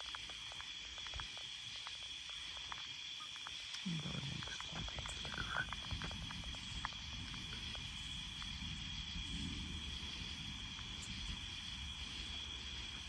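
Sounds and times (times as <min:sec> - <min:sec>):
night insect chorus: 0:00.0 - 0:13.0.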